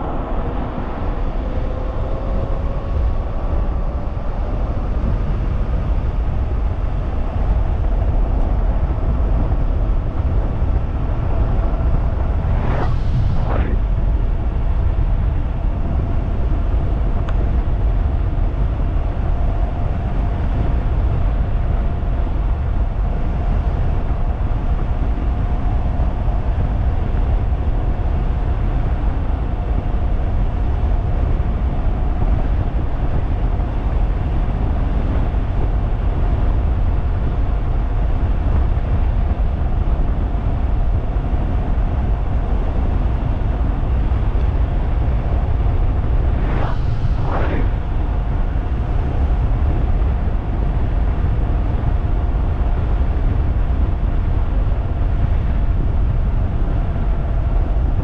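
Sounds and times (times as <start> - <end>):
wind blasting microphone: 0.0 - 58.0.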